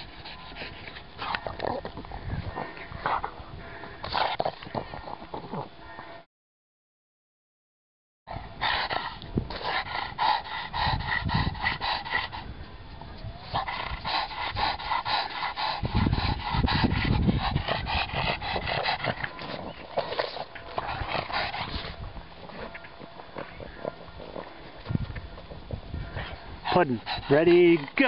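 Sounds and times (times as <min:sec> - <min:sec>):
dogs panting raspingly: 0:00.0 - 0:05.6, 0:08.3 - 0:28.0.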